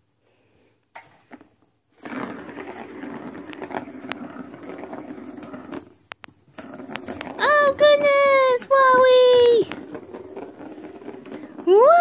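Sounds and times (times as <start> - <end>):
plastic ball rolling on track: 1.0 - 12.0.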